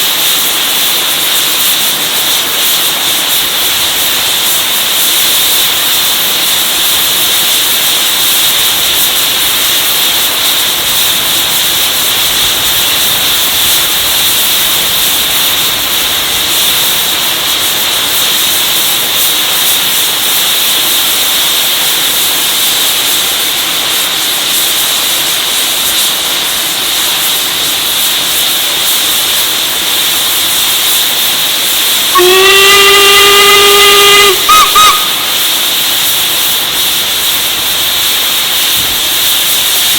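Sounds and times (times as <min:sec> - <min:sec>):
deep steam whistle: 0:00.0 - 0:23.0, 0:29.8 - 0:39.9
steam hissing: 0:00.0 - 0:39.9.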